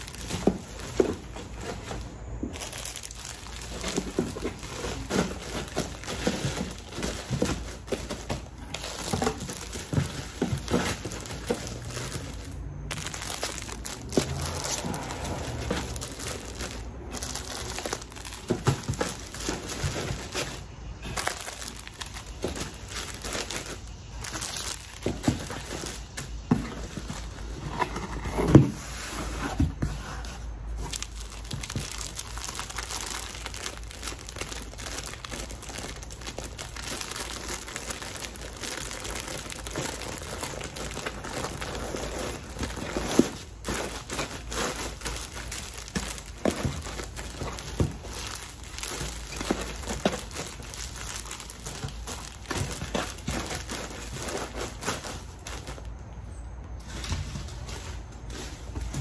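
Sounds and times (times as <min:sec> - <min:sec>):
plastic packaging crinkling: 0:00.0 - 0:59.0.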